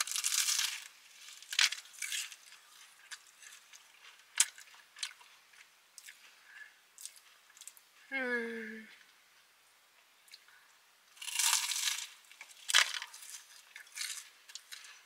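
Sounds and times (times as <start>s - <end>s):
crunching flaky pastry: 0.0s - 8.1s, 10.2s - 15.0s.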